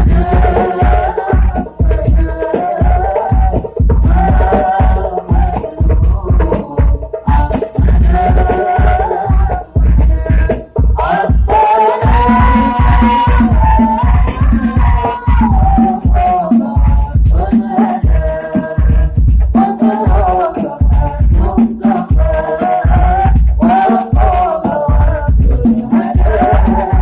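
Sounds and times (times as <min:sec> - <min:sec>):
drum beats: 0:00.0 - 0:27.0
person singing a melody: 0:00.0 - 0:27.0
rattling percussion: 0:00.0 - 0:27.0.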